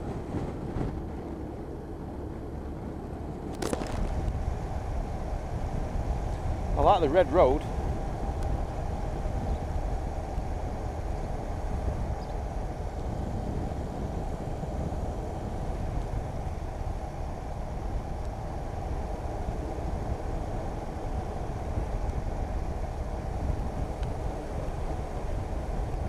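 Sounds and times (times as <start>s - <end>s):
motorcycle engine rumble: 0.0s - 26.0s
road noise: 0.0s - 26.0s
wind noise: 0.0s - 26.0s.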